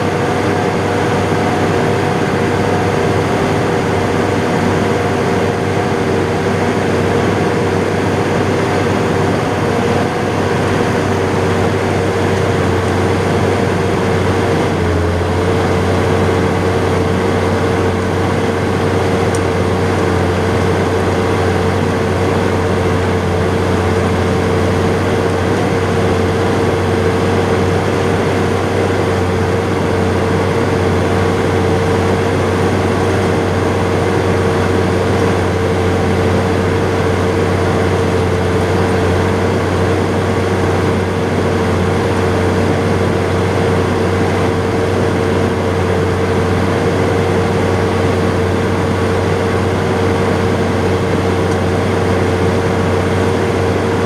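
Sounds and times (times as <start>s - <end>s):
steady engine whine: 0.0s - 54.0s
tractor engine drone: 0.0s - 54.0s.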